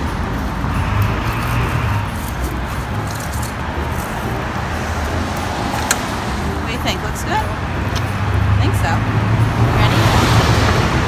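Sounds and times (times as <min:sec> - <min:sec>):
car passing: 0:00.0 - 0:11.0
steady low rumble: 0:00.0 - 0:11.0.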